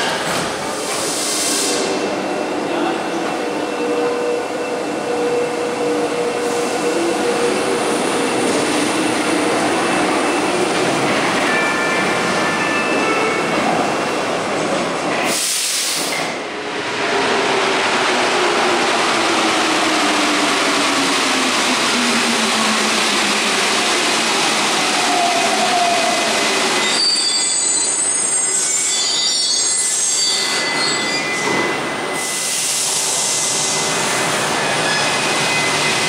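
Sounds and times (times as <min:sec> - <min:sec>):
train pulling in and braking: 0:00.0 - 0:36.0.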